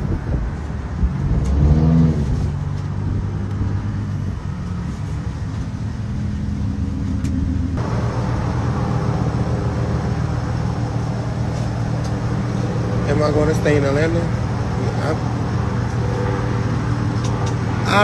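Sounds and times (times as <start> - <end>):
low vehicle hum: 0.0 - 18.0.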